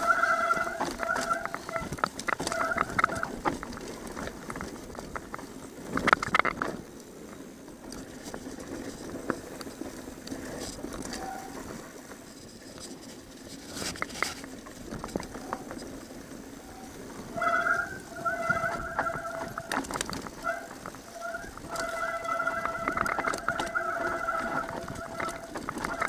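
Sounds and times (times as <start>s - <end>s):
bike chain and frame rattling: 0.0s - 26.0s
tyres on dirt and dry leaves: 0.0s - 26.0s.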